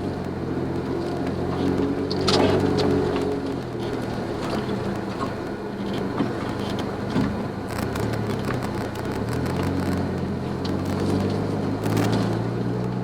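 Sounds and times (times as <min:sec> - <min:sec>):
small car engine running: 0:00.0 - 0:13.0
clicks and knocks from rough track: 0:00.1 - 0:13.0.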